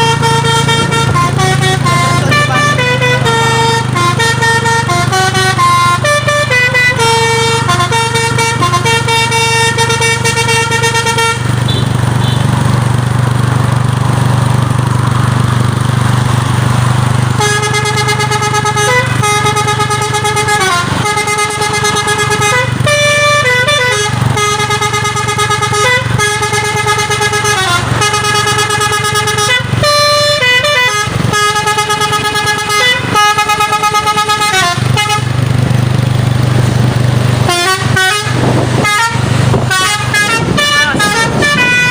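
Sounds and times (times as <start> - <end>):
truck musical horn tune: 0.0 - 13.4, 15.3 - 41.9.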